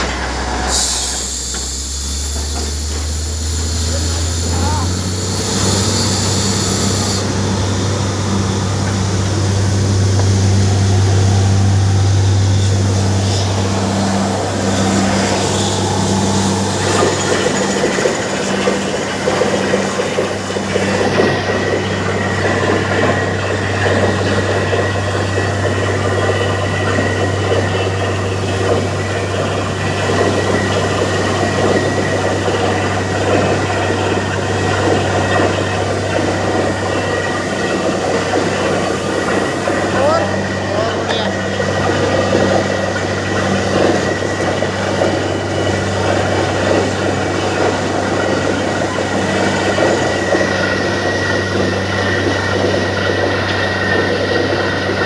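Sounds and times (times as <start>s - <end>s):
drilling rig engine drone: 0.0s - 55.0s.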